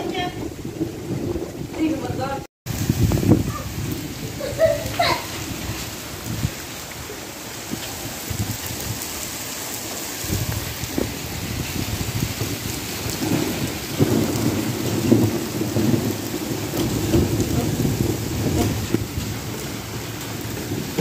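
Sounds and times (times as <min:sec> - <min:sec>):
low rumble of thunder: 0:00.0 - 0:09.4, 0:10.1 - 0:21.0
heavy rain falling: 0:00.0 - 0:21.0.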